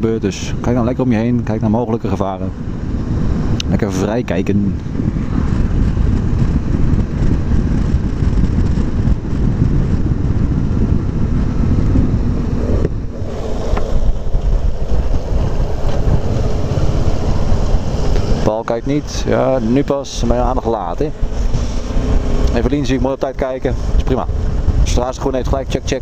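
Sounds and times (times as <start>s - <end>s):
road rumble: 0.0s - 26.0s
wind rushing over microphone: 0.0s - 26.0s
motorcycle engine: 2.4s - 25.0s.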